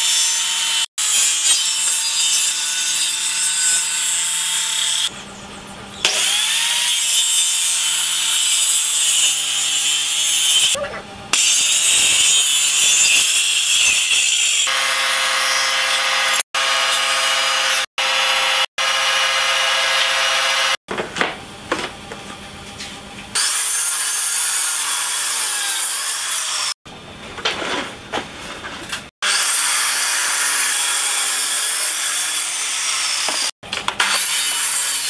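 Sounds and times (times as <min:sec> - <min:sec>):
circular saw cutting wood: 0:00.0 - 0:05.2, 0:06.0 - 0:20.8, 0:23.3 - 0:26.8, 0:29.2 - 0:35.0.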